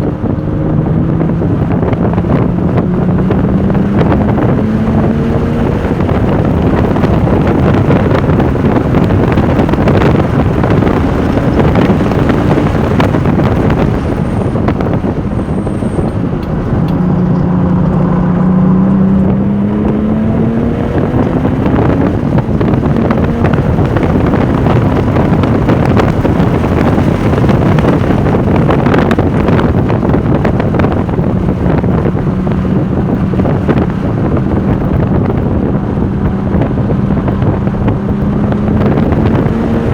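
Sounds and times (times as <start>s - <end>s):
car engine at speed: 0.0s - 39.9s
wind buffeting microphone: 0.0s - 39.9s.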